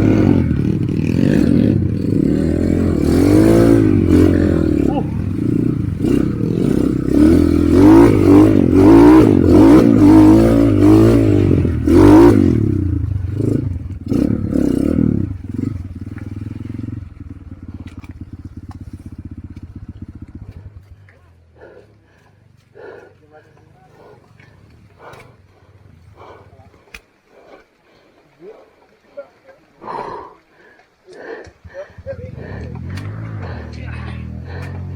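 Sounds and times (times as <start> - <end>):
motorcycle engine revving and idling: 0.0 - 27.0, 31.6 - 34.9.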